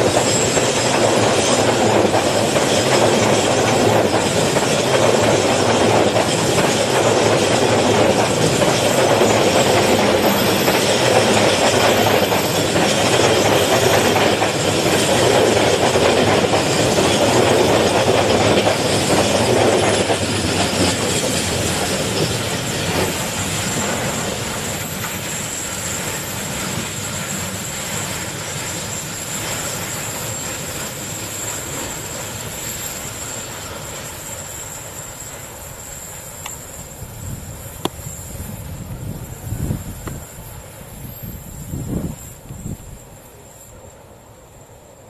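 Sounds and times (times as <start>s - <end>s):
train wheels clattering on rails: 0.0s - 43.1s.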